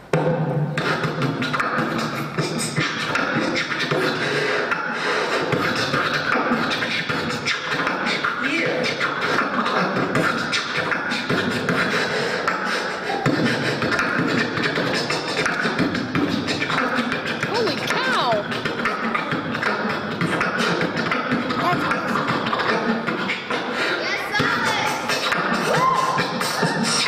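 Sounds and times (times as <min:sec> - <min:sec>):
beatboxing into microphone: 0:00.0 - 0:27.0.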